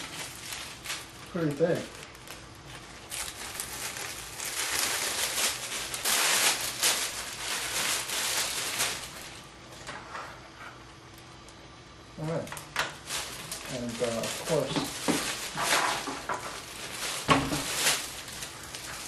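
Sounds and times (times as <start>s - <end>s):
plastic liner rustling and crinkling: 0.0s - 10.1s, 12.4s - 19.0s.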